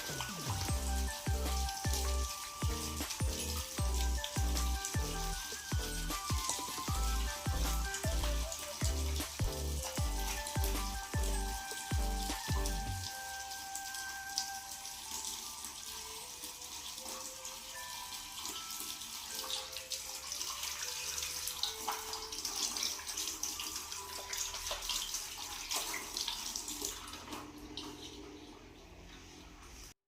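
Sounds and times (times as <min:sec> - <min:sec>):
water running and splashing: 0:00.0 - 0:30.0.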